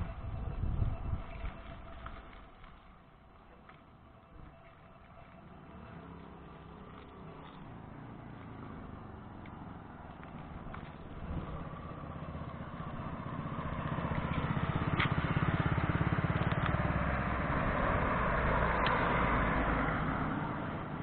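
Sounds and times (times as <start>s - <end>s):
motor vehicle passing: 0.0s - 21.0s.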